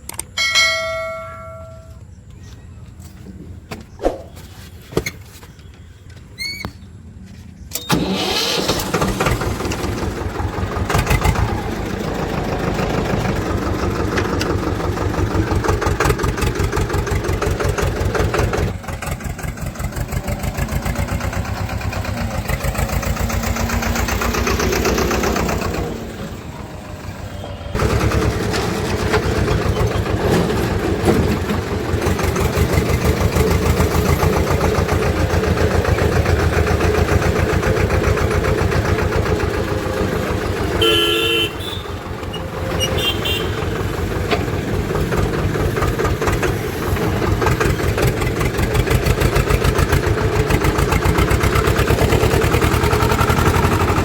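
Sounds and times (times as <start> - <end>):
tractor diesel engine running: 0.0 - 3.7, 5.8 - 54.0.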